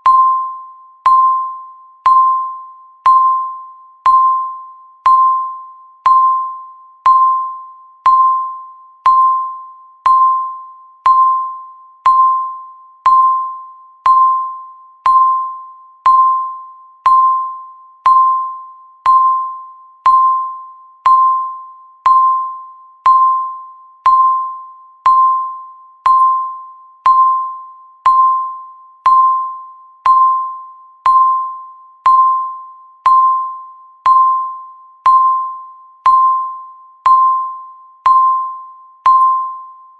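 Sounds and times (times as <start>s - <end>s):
electronic timer tick: 0.0s - 39.8s.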